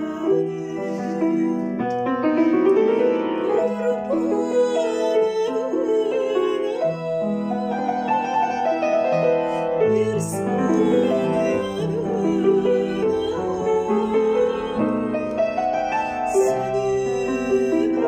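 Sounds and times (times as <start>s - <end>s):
woman singing with vibrato: 0.0s - 1.8s, 2.8s - 18.0s
piano accompaniment: 0.0s - 18.0s.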